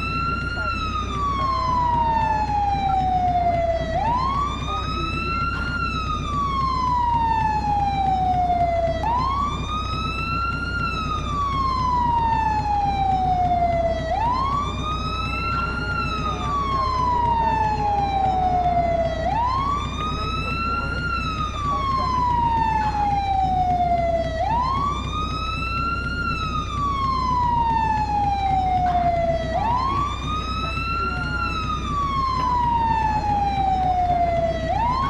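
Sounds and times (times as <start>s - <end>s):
fire truck siren wailing: 0.0s - 35.0s
low steady rumble: 0.0s - 35.0s.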